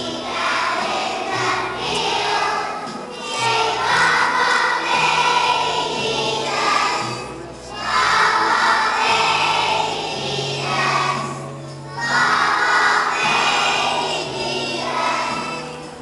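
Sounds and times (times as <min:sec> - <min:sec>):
children's choir singing: 0:00.0 - 0:16.0
musical accompaniment: 0:00.0 - 0:16.0.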